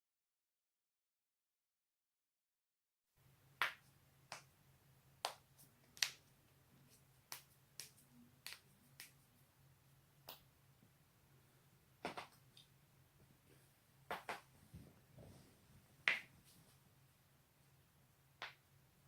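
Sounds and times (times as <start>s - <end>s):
faint low hum: 3.2s - 19.0s.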